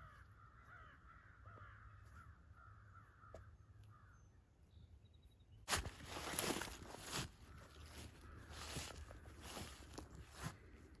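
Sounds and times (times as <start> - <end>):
bird calls chorus: 0.0 - 11.0.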